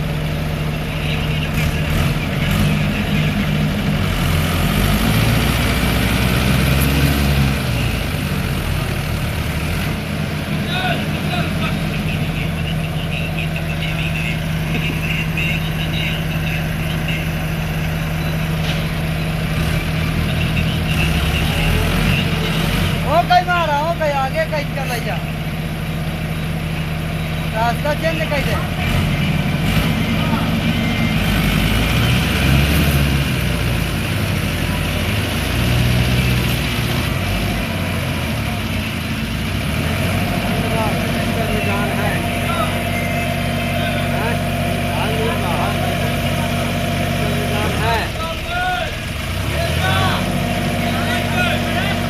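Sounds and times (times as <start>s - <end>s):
diesel tractor engine running: 0.0s - 52.0s.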